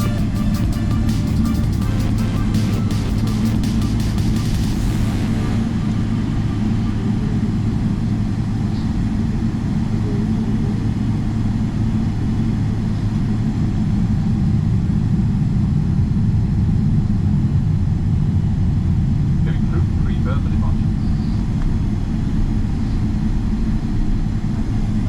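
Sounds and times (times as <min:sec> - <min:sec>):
jet engine rumble in cabin: 0:00.0 - 0:25.0.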